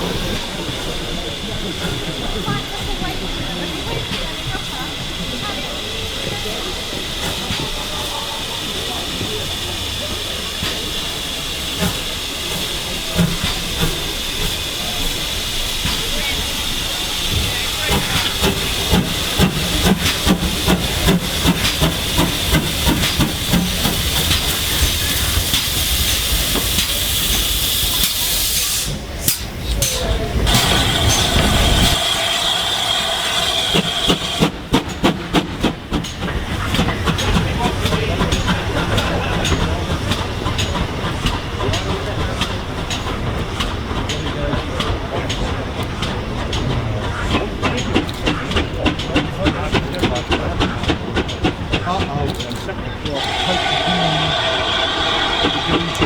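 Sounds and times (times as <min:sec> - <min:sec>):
steam locomotive hissing: 0:00.0 - 0:56.0
train rumbling: 0:00.0 - 0:56.0
train wheels clicking: 0:00.0 - 0:56.0.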